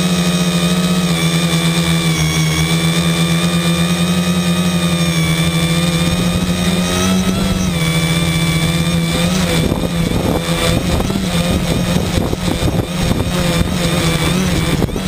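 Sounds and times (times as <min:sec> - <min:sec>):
drone motors buzzing: 0:00.0 - 0:15.0.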